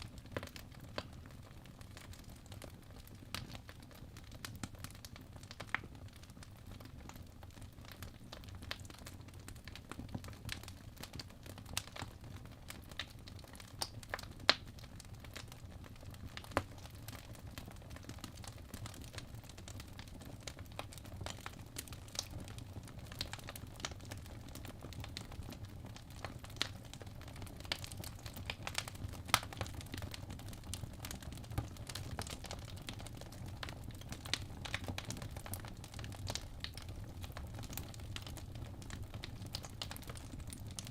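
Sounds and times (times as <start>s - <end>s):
fire crackles and pops: 0.0s - 40.9s.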